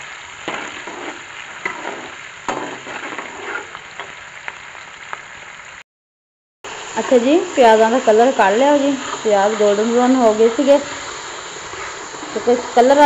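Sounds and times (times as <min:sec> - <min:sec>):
onions sizzling in hot oil: 0:00.0 - 0:05.8, 0:06.7 - 0:13.0.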